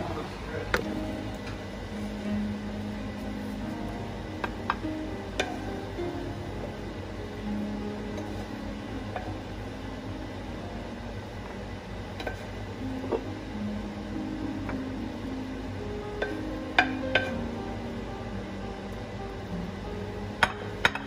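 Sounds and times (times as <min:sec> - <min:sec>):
soft acoustic guitar music: 0:00.0 - 0:21.0.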